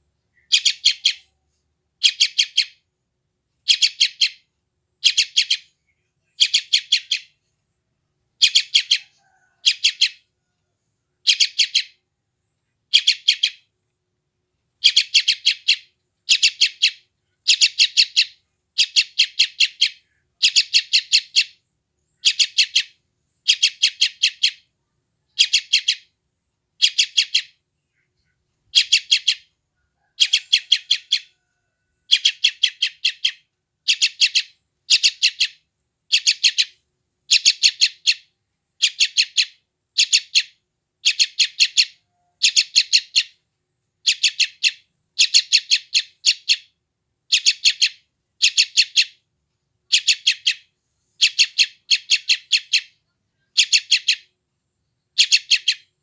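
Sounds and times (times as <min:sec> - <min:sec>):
bird chick begging calls: 0:00.4 - 0:01.4, 0:02.0 - 0:02.8, 0:03.6 - 0:04.4, 0:05.0 - 0:07.4, 0:08.4 - 0:10.3, 0:11.2 - 0:12.0, 0:12.9 - 0:13.6, 0:14.8 - 0:24.7, 0:25.3 - 0:26.1, 0:26.8 - 0:43.4, 0:44.0 - 0:49.2, 0:49.9 - 0:54.3, 0:55.1 - 0:56.0.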